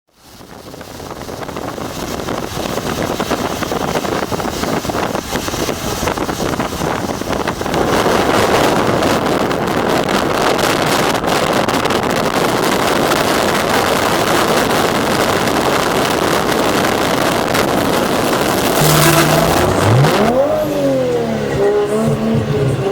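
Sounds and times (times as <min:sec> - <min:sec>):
rushing vehicle noise: 0:00.1 - 0:22.9
wind buffeting microphone: 0:00.1 - 0:22.9.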